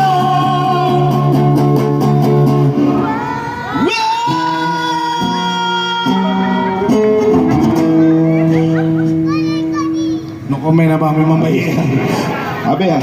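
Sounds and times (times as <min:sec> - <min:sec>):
guitar chords: 0:00.0 - 0:10.5.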